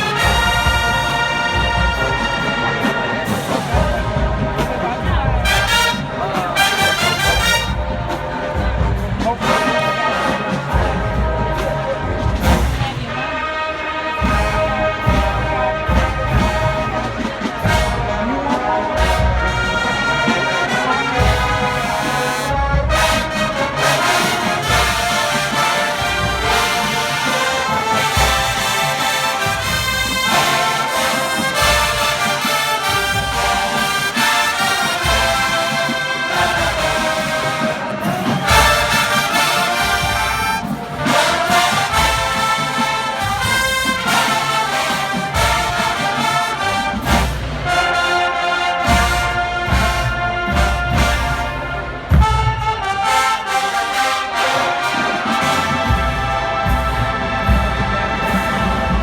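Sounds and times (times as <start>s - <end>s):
trumpets and trombones playing: 0.0s - 59.0s.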